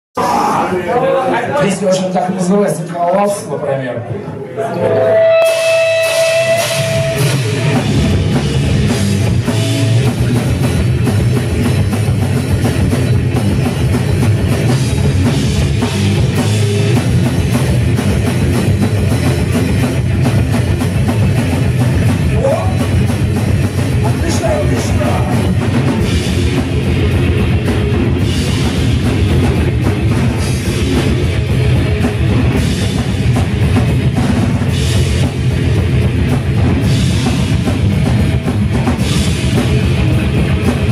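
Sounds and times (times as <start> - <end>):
distorted electric guitars: 4.3 - 40.9
drum kit with heavy bass drum: 5.3 - 40.9.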